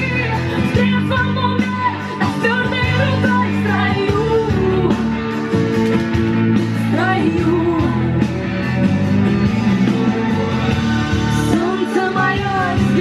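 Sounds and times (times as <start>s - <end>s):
rock song with singer: 0.0s - 13.0s.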